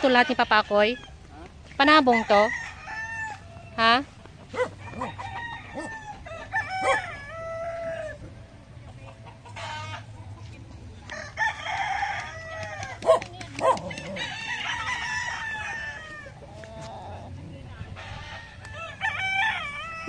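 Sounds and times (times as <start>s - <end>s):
roosters crowing and clucking: 0.0s - 20.0s.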